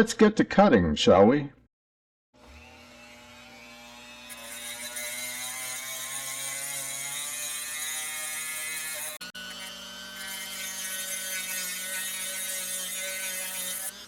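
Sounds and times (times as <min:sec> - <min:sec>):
rotary tool cutting stone: 0:02.4 - 0:14.0.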